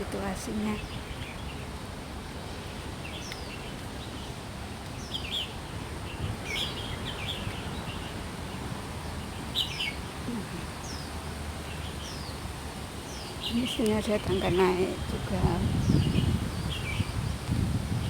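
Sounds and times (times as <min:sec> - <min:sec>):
small birds chirping: 0:00.0 - 0:01.8, 0:02.4 - 0:18.0.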